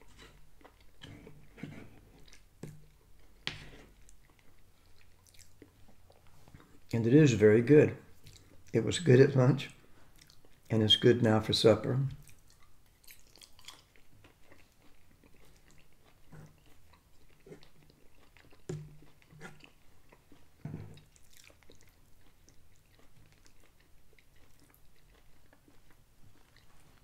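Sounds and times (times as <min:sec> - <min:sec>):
man chewing food: 0:00.0 - 0:07.0, 0:08.0 - 0:10.7, 0:12.2 - 0:27.0.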